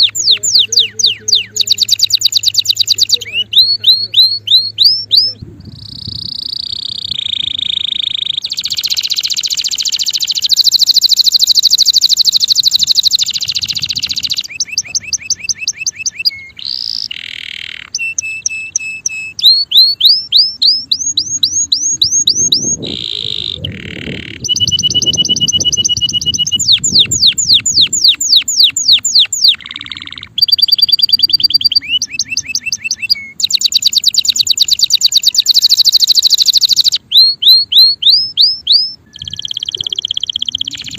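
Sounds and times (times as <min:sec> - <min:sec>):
canary singing fast trills: 0:00.0 - 0:40.9.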